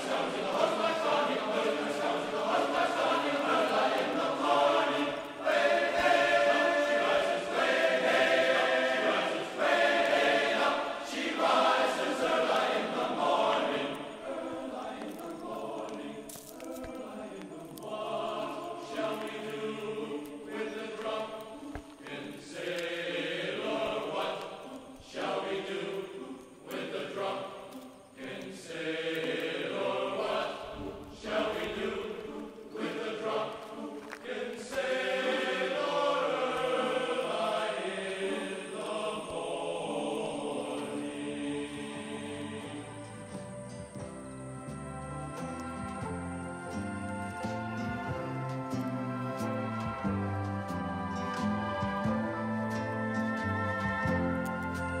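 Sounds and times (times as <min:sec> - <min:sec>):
choir singing held notes: 0:00.0 - 0:55.0.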